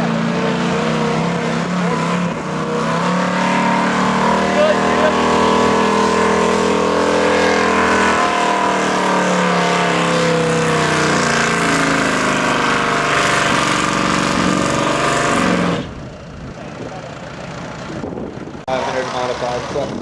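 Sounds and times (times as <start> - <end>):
truck engine revving hard: 0.0 - 20.0.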